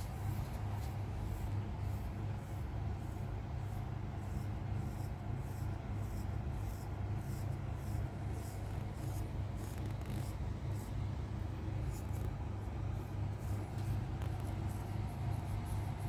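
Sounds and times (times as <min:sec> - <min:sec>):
scratching on cat fur: 0:00.0 - 0:16.0
steady low hum: 0:00.0 - 0:16.0.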